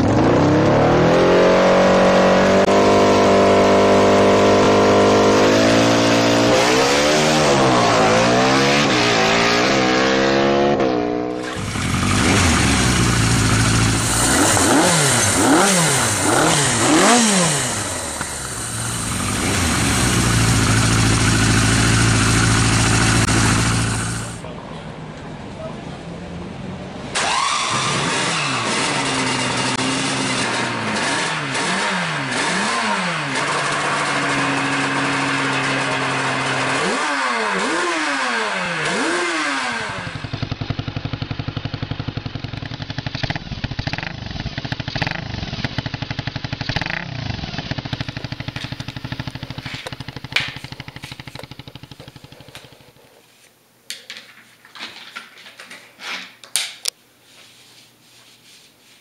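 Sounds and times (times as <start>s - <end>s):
motorcycle engine running: 0.0s - 24.4s, 28.1s - 53.0s
two-stroke racing engine revving: 0.0s - 24.4s, 27.2s - 52.8s.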